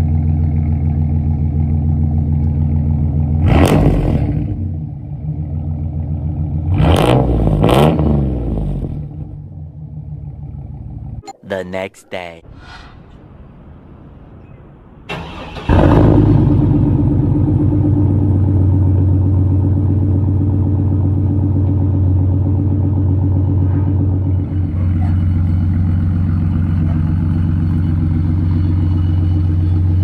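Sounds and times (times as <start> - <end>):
truck engine idling: 0.0 - 3.6, 4.3 - 6.8, 8.6 - 11.2, 12.9 - 30.0.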